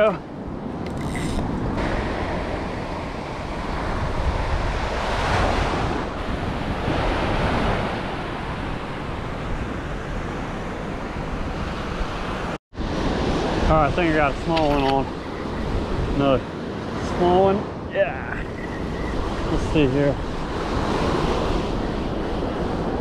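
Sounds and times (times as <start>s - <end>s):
wind buffeting microphone: 0.0s - 17.0s, 17.8s - 23.0s.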